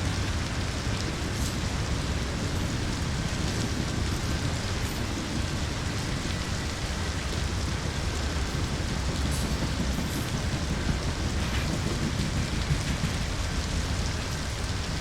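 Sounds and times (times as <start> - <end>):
heavy rainfall: 0.0 - 15.0
low rumble: 0.0 - 15.0.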